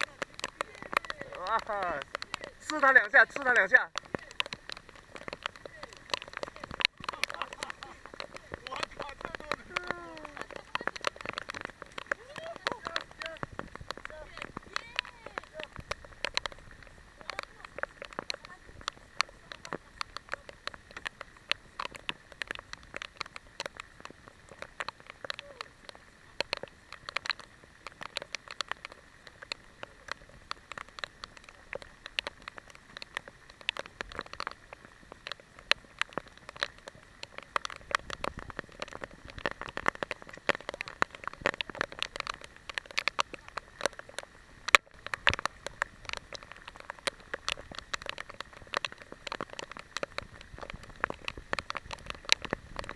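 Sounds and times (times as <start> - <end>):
heavy rain: 0.0 - 52.9
raindrops tapping camera housing: 0.0 - 52.9.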